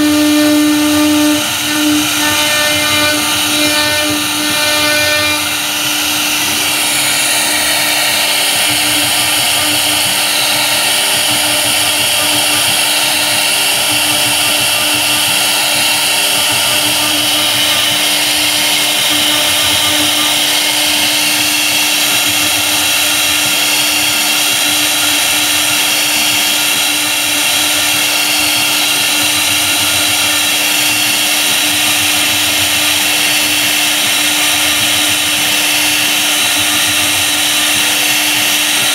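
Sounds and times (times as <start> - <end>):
cnc router spindle whine: 0.0 - 38.9.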